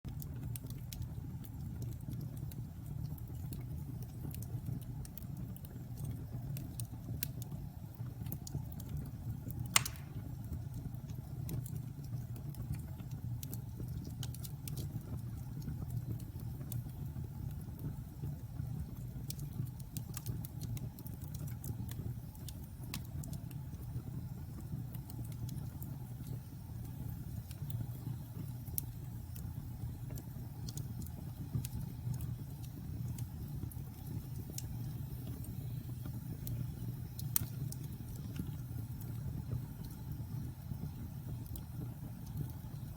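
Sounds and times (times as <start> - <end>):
fire crackling and popping: 0.1 - 42.9
wood fire burning: 0.1 - 42.9.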